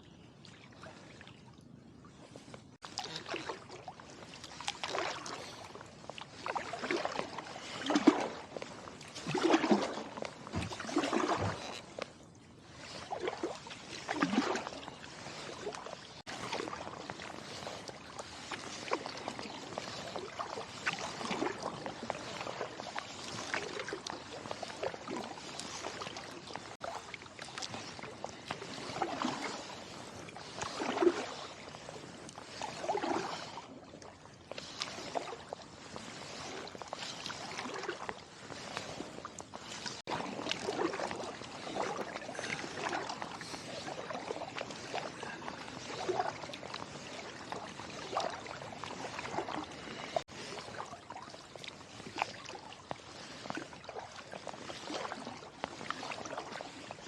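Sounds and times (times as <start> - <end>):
paddle splashing through water: 0.4 - 57.0.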